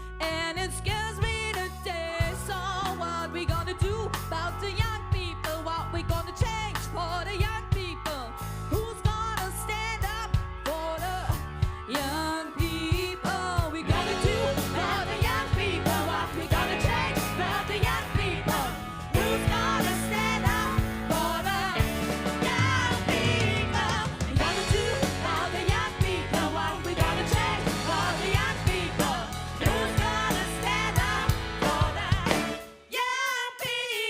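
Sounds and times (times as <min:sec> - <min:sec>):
bass line: 0:00.0 - 0:32.7
drum kit beat: 0:03.5 - 0:34.0.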